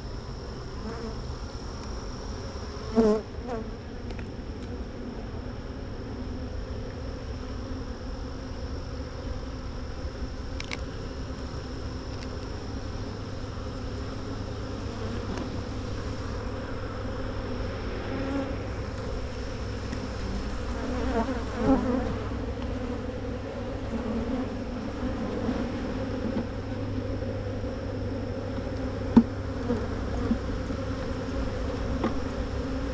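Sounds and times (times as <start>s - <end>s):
honeybees buzzing: 0.4s - 32.9s.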